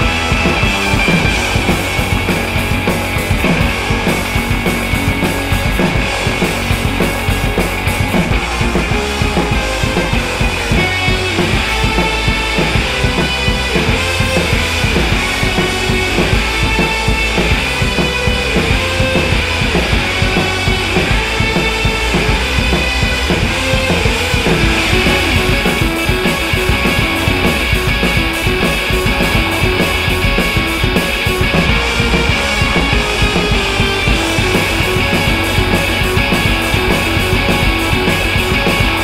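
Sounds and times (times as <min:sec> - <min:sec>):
electric guitar: 0:00.0 - 0:39.0
rock music: 0:00.0 - 0:39.0
steady drum beat: 0:00.0 - 0:39.0.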